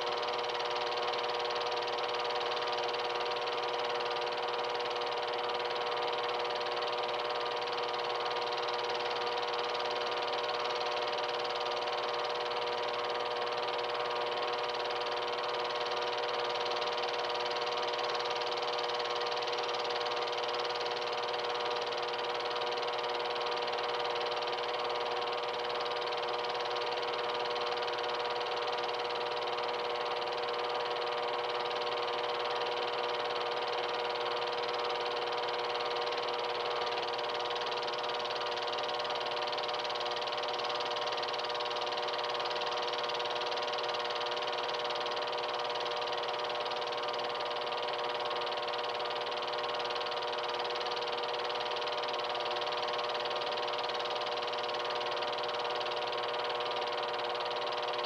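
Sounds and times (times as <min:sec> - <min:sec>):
film projector running: 0:00.0 - 0:58.0.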